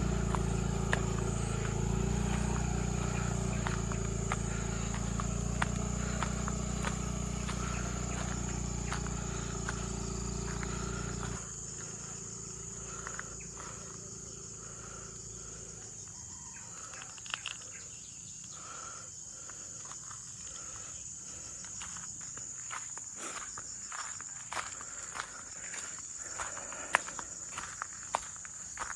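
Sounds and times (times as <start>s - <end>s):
insects chirring: 0.0s - 28.9s.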